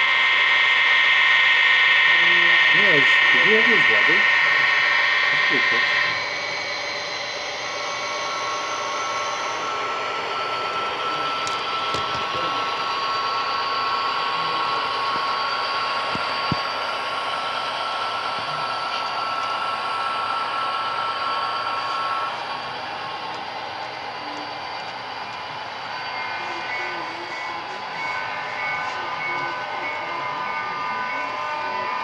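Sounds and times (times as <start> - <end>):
high whine: 0.0 - 32.0
model train motors and wheels whirring: 0.0 - 32.0.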